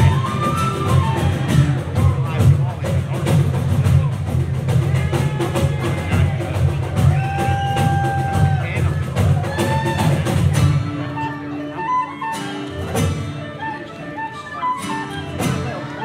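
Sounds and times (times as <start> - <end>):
acoustic guitars and fiddles playing: 0.0 - 16.0.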